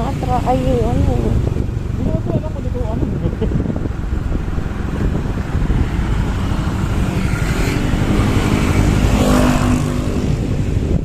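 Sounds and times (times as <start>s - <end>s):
traffic rumble: 0.0s - 11.0s
vehicle engine passing: 0.0s - 11.0s
wind: 0.0s - 11.0s.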